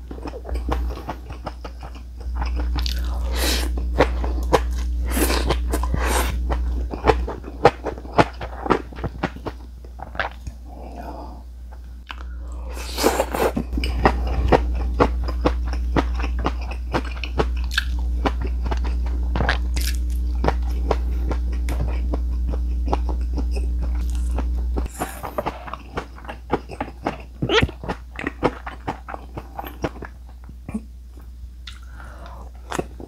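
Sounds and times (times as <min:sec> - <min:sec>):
crunchy chewing: 0:00.0 - 0:11.2, 0:12.0 - 0:30.8
low hum: 0:00.0 - 0:33.0.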